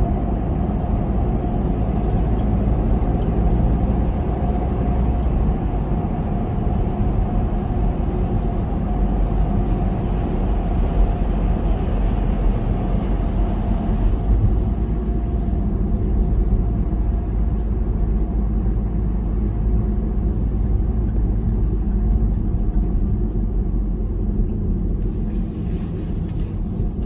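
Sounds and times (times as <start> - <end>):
road and engine rumble: 0.0 - 27.0.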